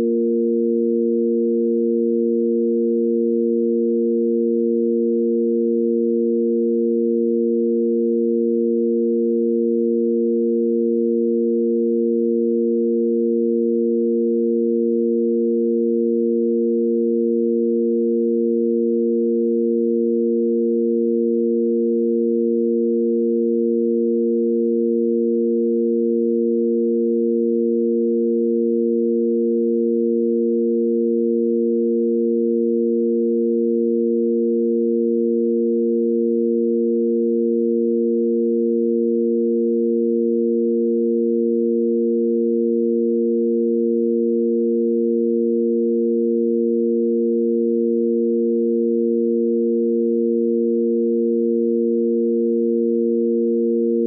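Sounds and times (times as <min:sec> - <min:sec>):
sine tone drone: 0:00.0 - 0:54.0.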